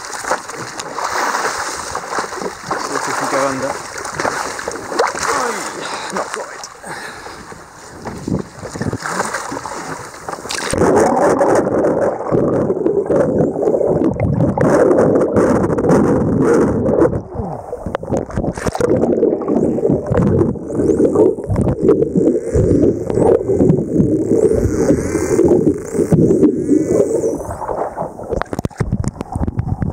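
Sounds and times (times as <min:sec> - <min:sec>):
muffled underwater water rush: 0:00.0 - 0:29.9.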